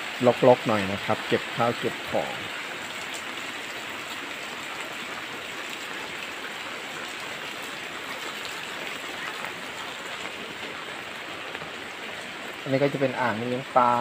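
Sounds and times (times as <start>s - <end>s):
rain on concrete: 0.0s - 14.0s.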